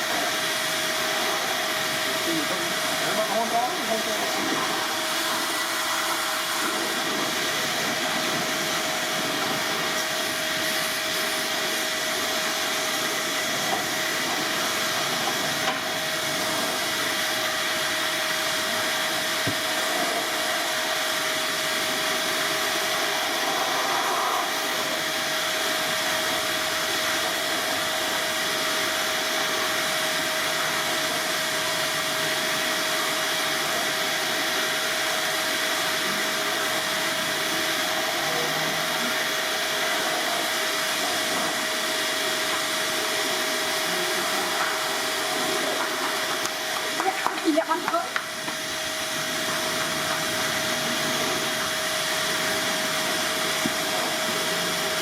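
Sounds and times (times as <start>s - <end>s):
blower motor rushing with whine: 0.0s - 55.0s.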